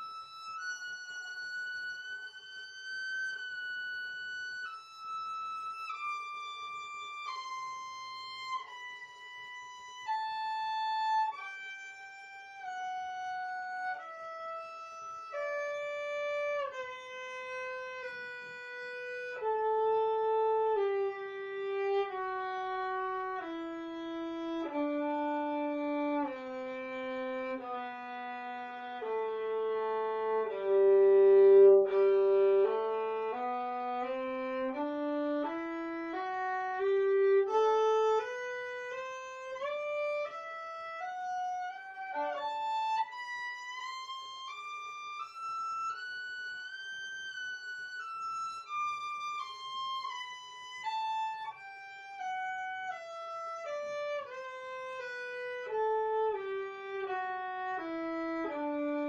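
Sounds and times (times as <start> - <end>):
violin playing a slow scale: 0.0 - 59.0.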